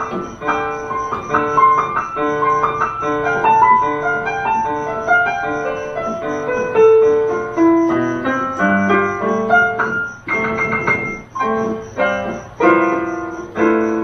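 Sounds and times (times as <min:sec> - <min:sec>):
electronic keyboard melody: 0:00.0 - 0:14.0.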